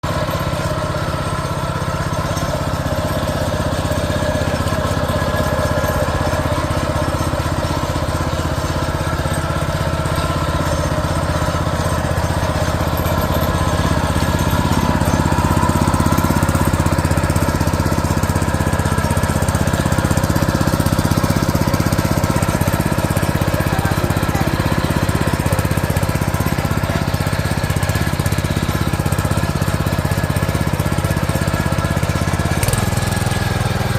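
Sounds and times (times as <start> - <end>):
rotary tiller engine running: 0.0 - 33.9.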